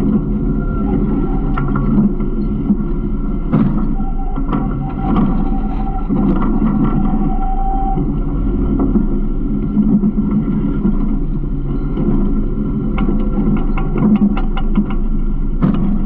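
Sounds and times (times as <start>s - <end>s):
garbage truck engine drone: 0.0s - 16.0s
rattles and clanks: 0.0s - 16.0s
thin steady whine: 0.0s - 16.0s.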